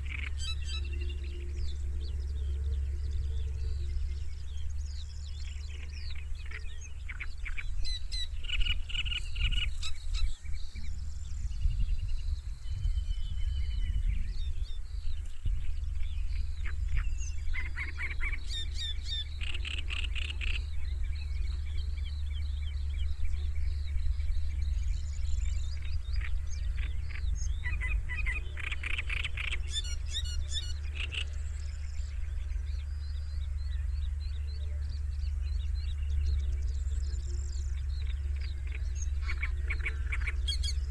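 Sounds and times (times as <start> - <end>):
small birds singing: 0.0 - 40.9
steady low rumble: 0.0 - 40.9.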